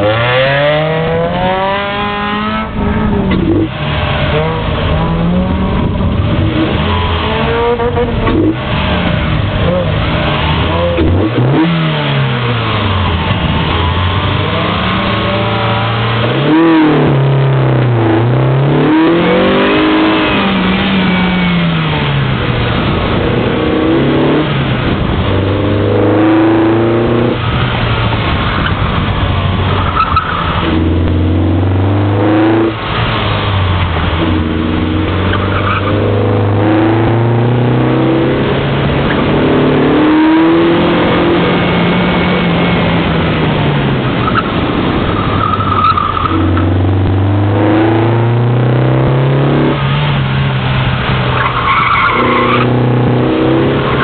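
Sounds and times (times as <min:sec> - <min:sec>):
car engine revving hard: 0:00.0 - 0:54.0.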